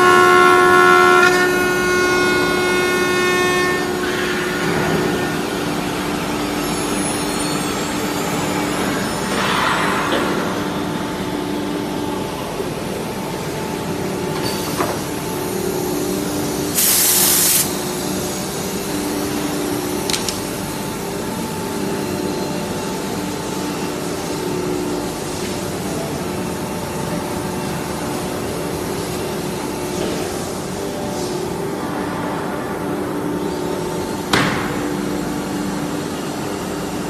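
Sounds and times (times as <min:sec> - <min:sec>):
cnc router humming: 0:00.0 - 0:09.4, 0:10.3 - 0:37.0.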